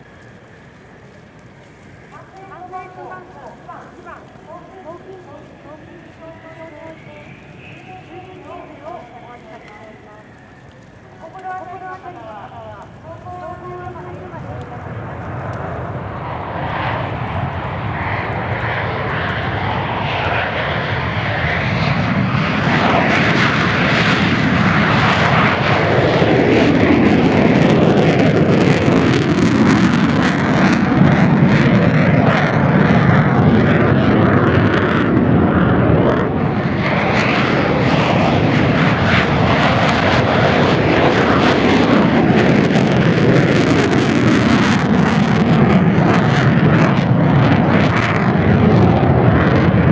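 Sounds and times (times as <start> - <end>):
jet engine roar fly-by: 0.0 - 49.9.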